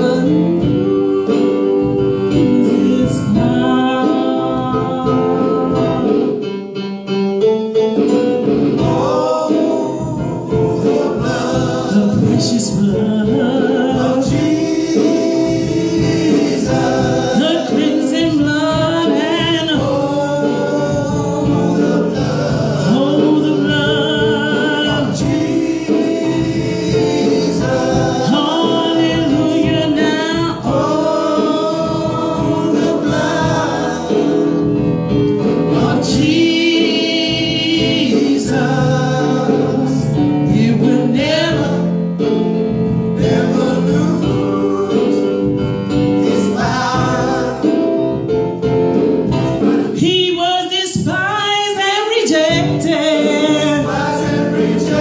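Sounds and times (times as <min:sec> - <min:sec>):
vocal group singing a hymn: 0:00.0 - 0:06.5, 0:08.3 - 0:55.0.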